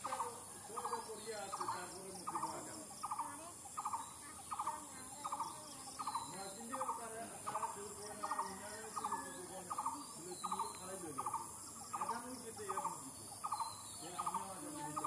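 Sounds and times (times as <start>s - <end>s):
faint wavering bird calls: 0.0s - 15.0s.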